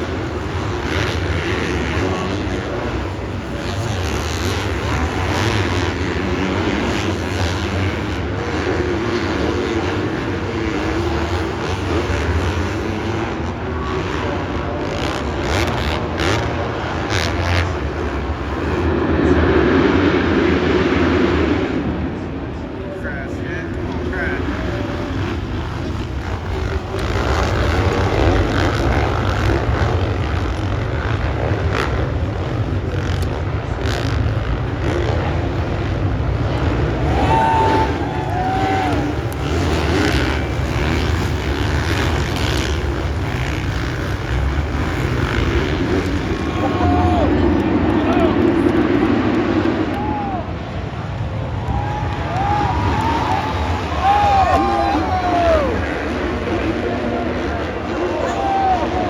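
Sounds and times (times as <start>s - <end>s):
dirt bike engines running: 0.0s - 59.0s.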